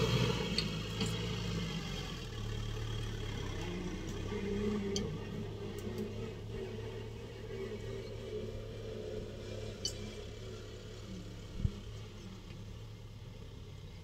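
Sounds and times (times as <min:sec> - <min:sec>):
distant tractor diesel engine: 0:00.0 - 0:14.0.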